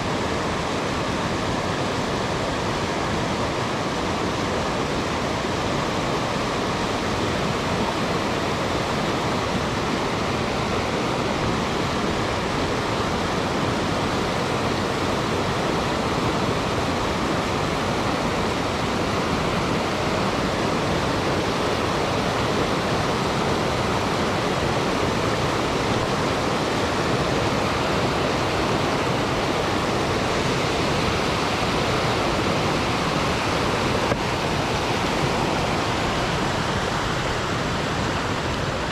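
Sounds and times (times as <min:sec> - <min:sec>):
rushing river water: 0:00.0 - 0:38.9.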